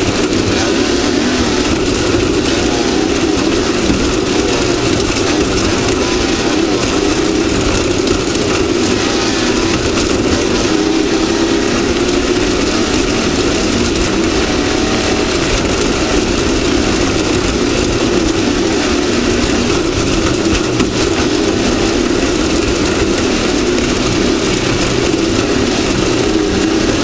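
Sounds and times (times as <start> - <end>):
constant rushing noise: 0.0 - 27.0
race vehicle engine running: 0.0 - 27.0.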